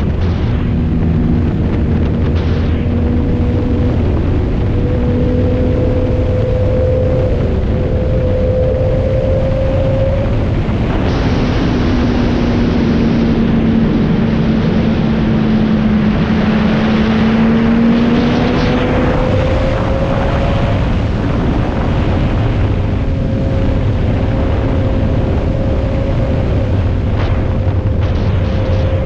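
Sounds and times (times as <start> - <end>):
motorcycle engine running: 0.0 - 29.0
wind rush on microphone: 0.0 - 29.0.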